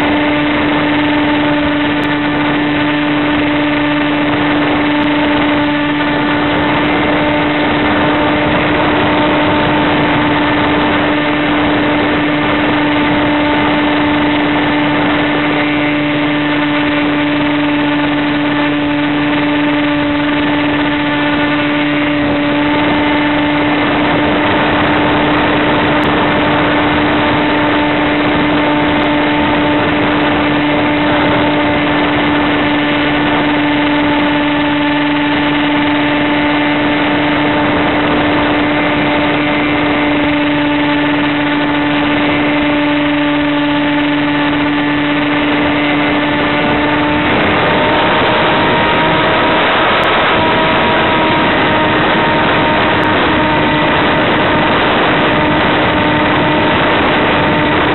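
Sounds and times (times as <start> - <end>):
electric motor and propeller hum: 0.0 - 57.9
rushing air: 0.0 - 57.9.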